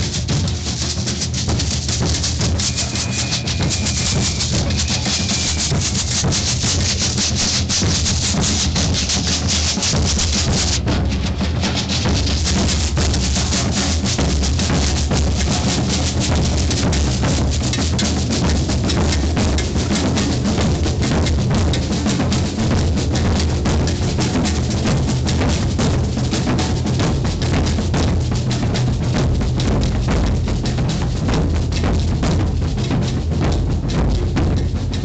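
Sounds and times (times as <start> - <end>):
deep bass drums: 0.0 - 35.0
rapid snare drum strokes: 0.0 - 35.0.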